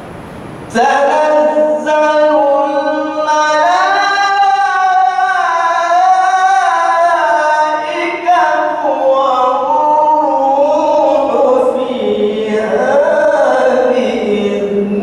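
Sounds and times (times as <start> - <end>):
man chanting melodically: 0.7 - 15.0.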